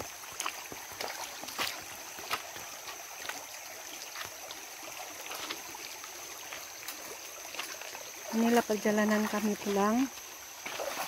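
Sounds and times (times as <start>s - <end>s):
footsteps splashing on wet stones: 0.0s - 11.0s
stream running over rocks: 0.0s - 11.0s.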